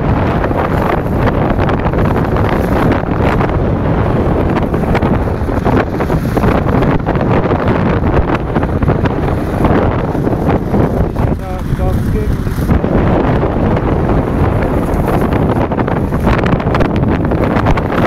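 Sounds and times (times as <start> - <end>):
skis scraping over snow: 0.0 - 18.0
wind buffeting microphone: 0.0 - 18.0.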